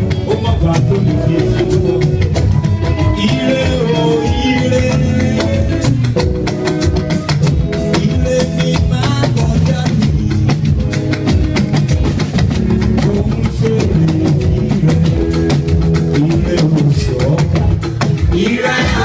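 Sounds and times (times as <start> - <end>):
band music: 0.0 - 19.0
drum kit beat: 0.0 - 19.0
guitar playing: 0.0 - 19.0.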